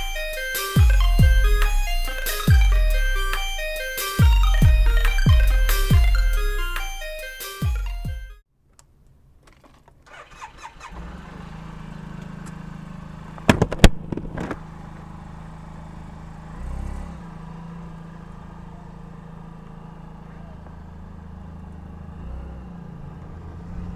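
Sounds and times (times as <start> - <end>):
scooter engine idling: 0.0 - 8.4, 10.1 - 16.6, 17.3 - 21.9.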